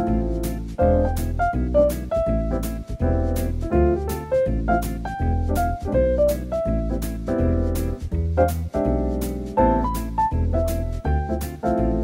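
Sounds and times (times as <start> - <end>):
jazzy piano tune with beat: 0.0 - 12.0.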